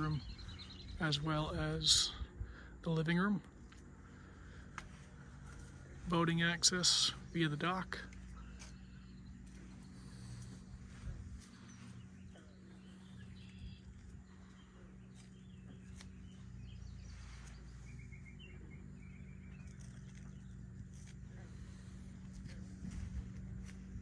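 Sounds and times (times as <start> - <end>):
low rumble: 0.0 - 24.0
small birds chirping: 0.0 - 24.0
steady low hum: 0.0 - 24.0.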